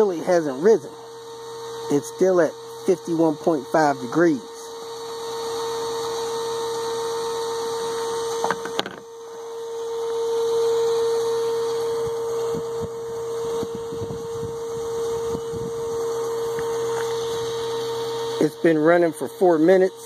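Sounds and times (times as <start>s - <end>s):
fuel pump whine: 0.0s - 20.0s.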